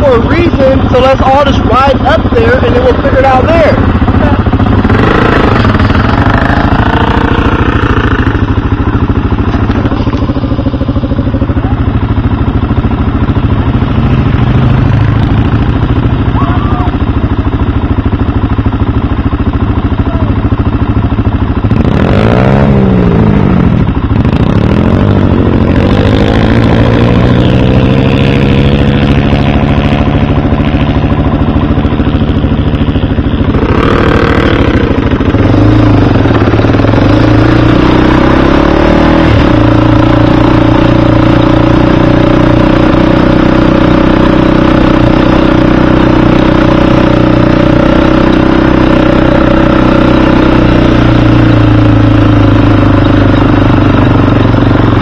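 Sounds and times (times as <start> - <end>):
engine revving: 0.0 - 55.0
quad bike accelerating away: 0.0 - 55.0
quad bike engines running: 0.0 - 55.0.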